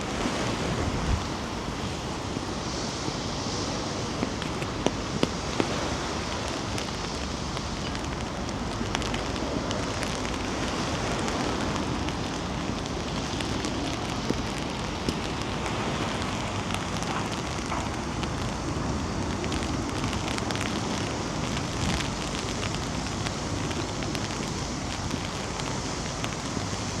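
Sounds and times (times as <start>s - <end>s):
rain drops ticking: 0.0s - 27.0s
wind rumble on microphone: 0.0s - 27.0s.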